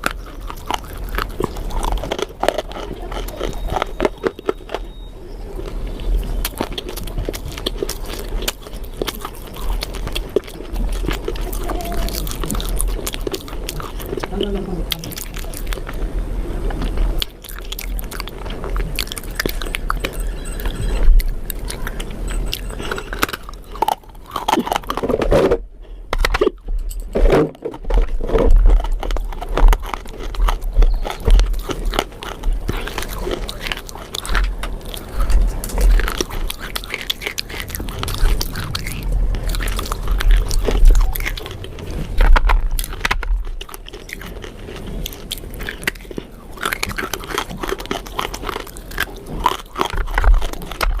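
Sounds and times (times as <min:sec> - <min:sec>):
person chewing crisp food: 0:00.0 - 0:51.0.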